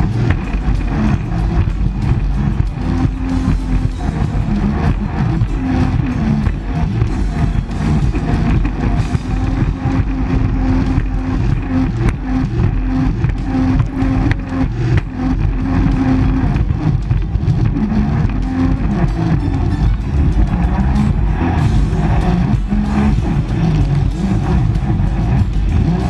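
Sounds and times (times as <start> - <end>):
jet ski engine running: 0.0 - 26.0
music playing: 0.0 - 26.0.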